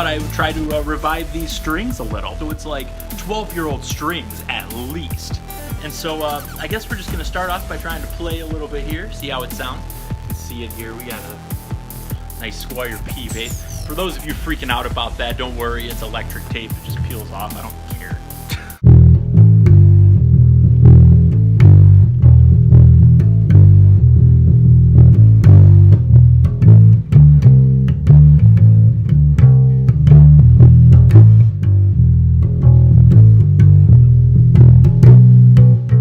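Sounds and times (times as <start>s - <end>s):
plucked electric bass line: 0.0s - 36.0s.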